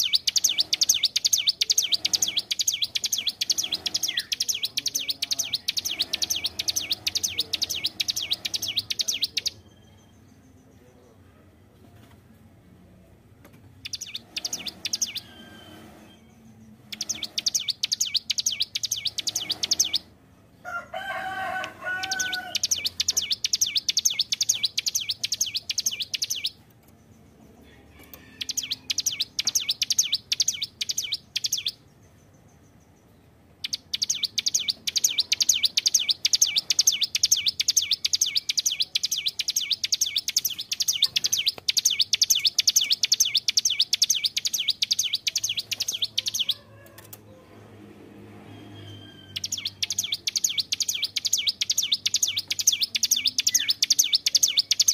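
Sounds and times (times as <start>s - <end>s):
bird singing rapid high notes: 0.0s - 10.6s, 13.8s - 20.2s, 22.0s - 26.6s, 28.4s - 31.9s, 33.6s - 46.6s, 48.4s - 54.9s.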